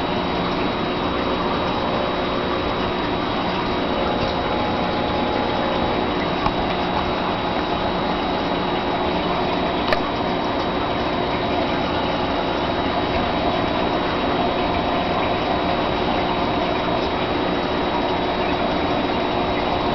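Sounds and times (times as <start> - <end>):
aquarium filter pump running: 0.0 - 19.9.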